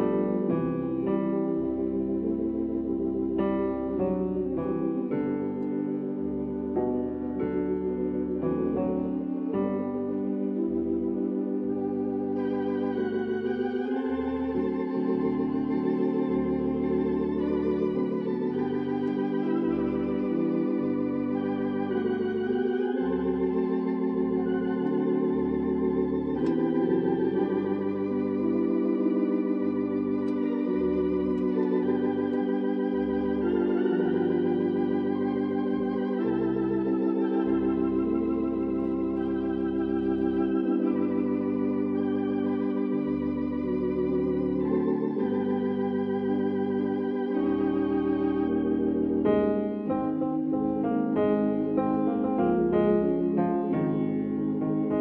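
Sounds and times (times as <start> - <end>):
organ playing held chords: 0.0 - 55.0.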